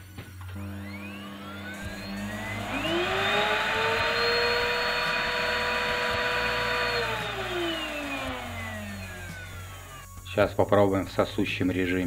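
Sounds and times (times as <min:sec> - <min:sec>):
vacuum cleaner motor whining: 0:00.0 - 0:10.4.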